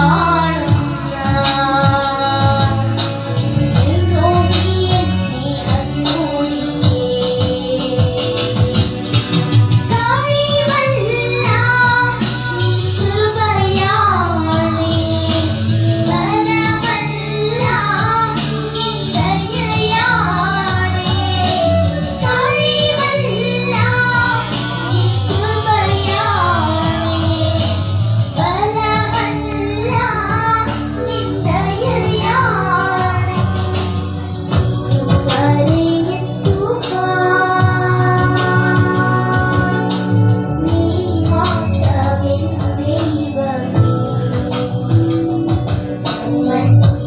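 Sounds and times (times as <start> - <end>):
girls singing through microphones: 0.0 - 47.0.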